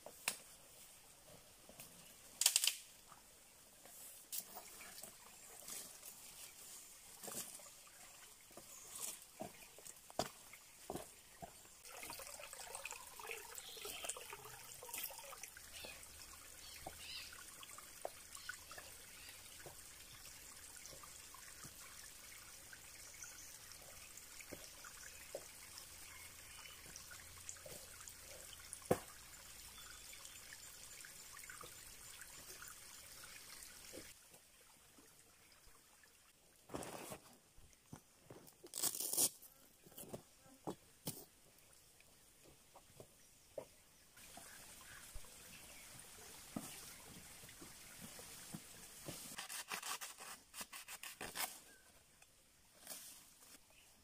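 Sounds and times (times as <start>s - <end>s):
water trickling over rocks: 0.0s - 54.0s.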